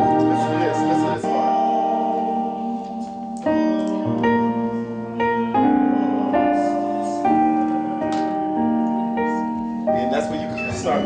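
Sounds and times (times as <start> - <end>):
keyboard playing sustained chords: 0.0 - 11.0.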